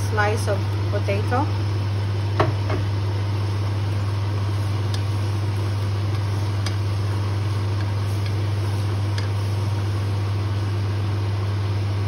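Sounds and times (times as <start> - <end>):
kitchen appliance humming: 0.0 - 12.0.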